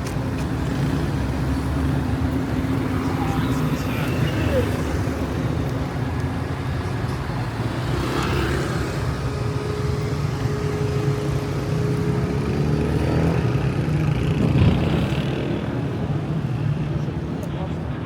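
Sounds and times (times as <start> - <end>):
vehicle passing: 0.0 - 16.4
vehicle engines rumbling: 0.0 - 18.0.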